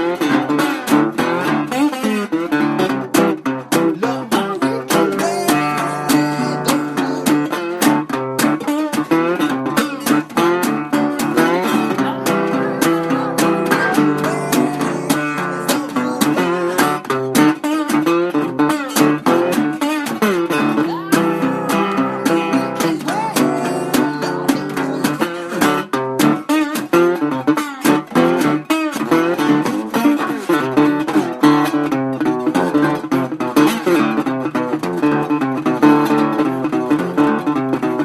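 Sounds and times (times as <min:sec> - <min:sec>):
slide blues acoustic guitar: 0:00.0 - 0:38.0.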